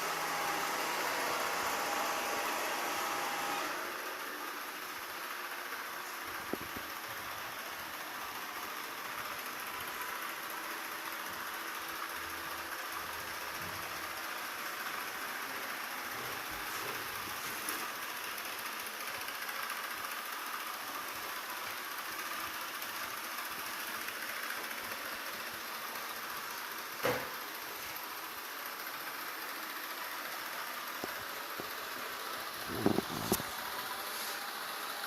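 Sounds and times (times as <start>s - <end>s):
robot vacuum cleaner humming: 0.0s - 35.0s.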